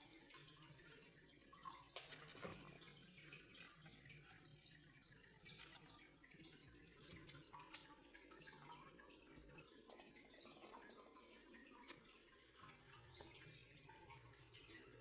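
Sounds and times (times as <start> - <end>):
water trickling and dripping: 0.0 - 15.0.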